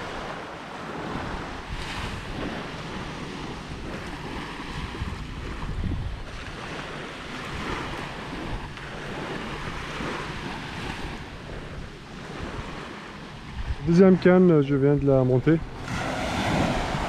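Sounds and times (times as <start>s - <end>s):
waves washing onto a beach: 0.0s - 17.0s
wind rumbling on microphone: 0.0s - 17.0s.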